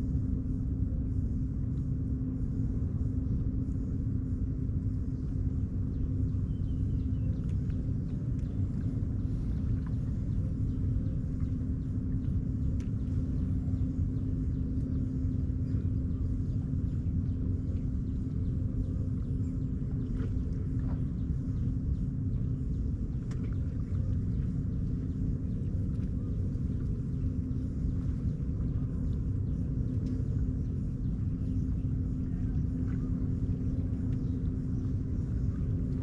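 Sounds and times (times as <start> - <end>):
low hum: 0.0 - 36.0
low outdoor rumble: 0.0 - 36.0.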